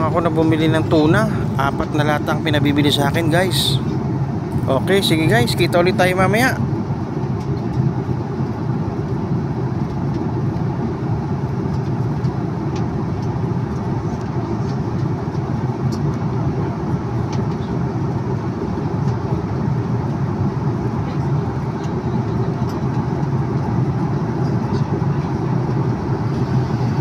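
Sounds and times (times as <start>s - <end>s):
jet cabin engine and airflow noise: 0.0s - 27.0s.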